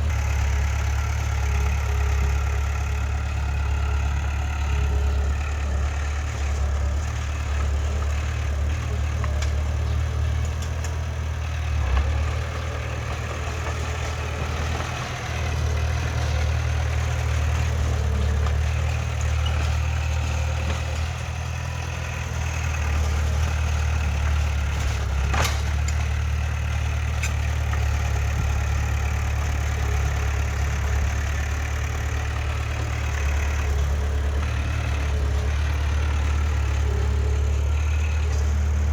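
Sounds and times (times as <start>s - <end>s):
heavy diesel engine drone: 0.0s - 38.9s.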